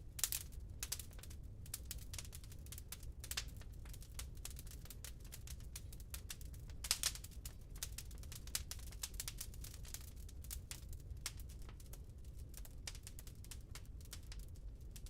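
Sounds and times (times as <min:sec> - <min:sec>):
low rumble of fire: 0:00.0 - 0:15.0
wood fire crackling and popping: 0:00.0 - 0:15.0.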